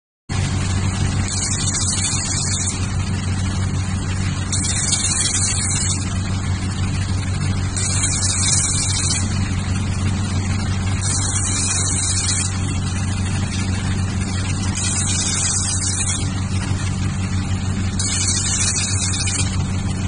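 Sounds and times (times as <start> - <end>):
machine low hum: 0.3 - 20.0
laser welder hissing bursts: 1.2 - 20.0.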